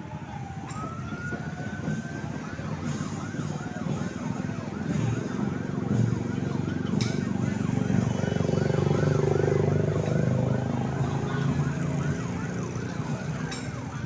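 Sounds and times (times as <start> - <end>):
siren wailing and yelping: 0.0 - 14.0
motorcycle engines passing: 0.1 - 14.0.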